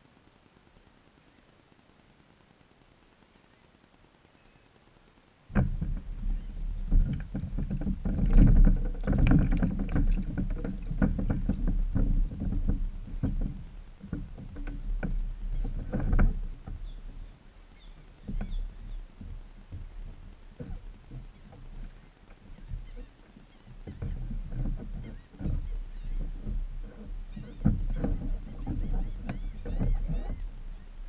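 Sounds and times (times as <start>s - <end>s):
boat bumping: 5.5s - 31.0s.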